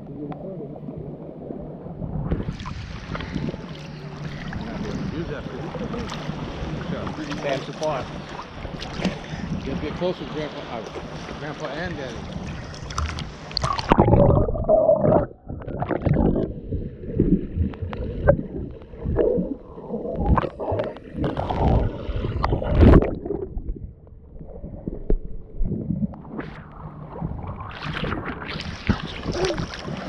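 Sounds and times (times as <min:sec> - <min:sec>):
sea water sloshing and splashing: 0:01.6 - 0:30.0.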